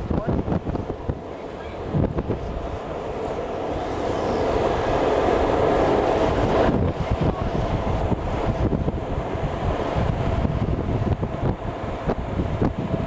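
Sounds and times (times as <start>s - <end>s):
skateboard wheels rolling on asphalt: 0.0s - 13.0s
wind on microphone: 0.0s - 13.0s.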